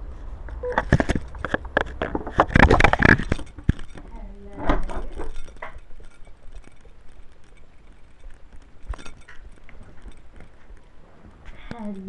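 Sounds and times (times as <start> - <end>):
small clicks and knocks: 0.5 - 12.0.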